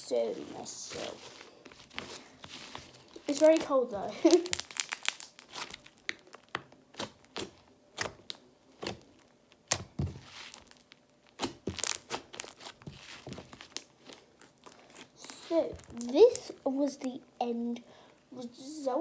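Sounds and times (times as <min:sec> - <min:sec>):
slime squished by hand: 0:00.4 - 0:16.6.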